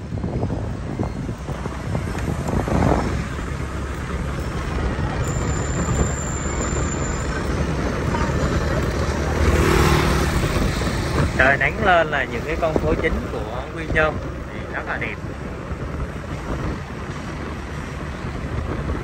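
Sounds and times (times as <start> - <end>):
wind and road noise on motorbike: 0.0 - 19.0.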